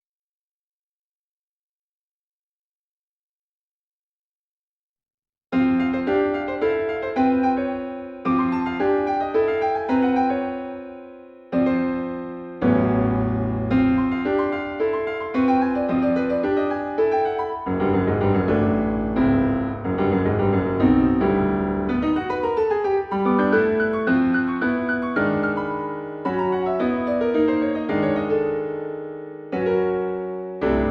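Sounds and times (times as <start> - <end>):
solo piano: 5.5 - 30.9.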